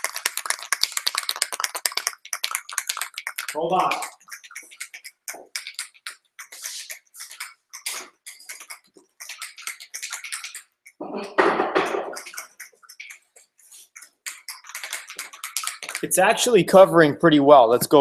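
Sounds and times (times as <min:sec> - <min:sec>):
spray can ball rattling: 0:00.0 - 0:11.0, 0:11.6 - 0:16.9.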